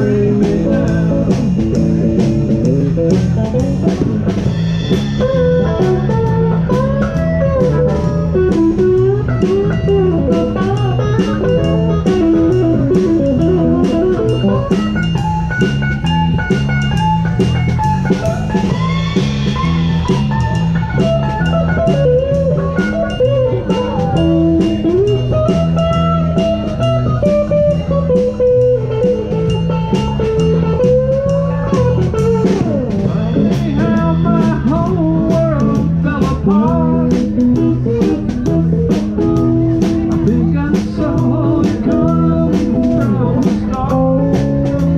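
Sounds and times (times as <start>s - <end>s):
bass guitar: 0.0s - 44.9s
drum-kit beat: 0.0s - 44.9s
electric guitar lead line: 0.0s - 44.9s.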